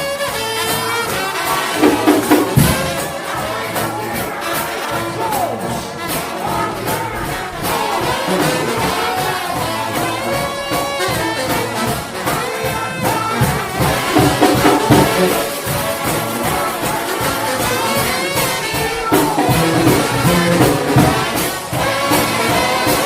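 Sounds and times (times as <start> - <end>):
brass ensemble playing gospel: 0.0 - 23.0
steady percussion beat: 0.0 - 23.0.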